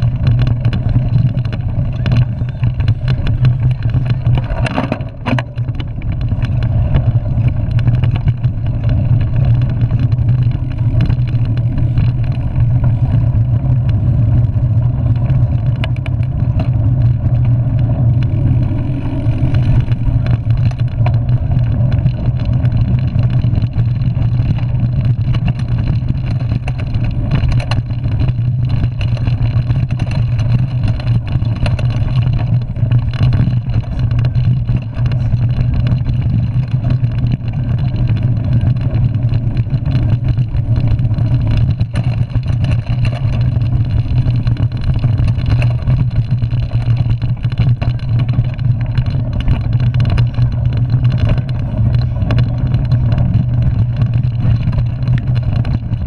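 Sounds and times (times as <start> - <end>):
bike clicks and rattles: 0.0 - 56.0
tyres rumbling on dirt trail: 0.0 - 56.0
wind on camera: 0.0 - 56.0.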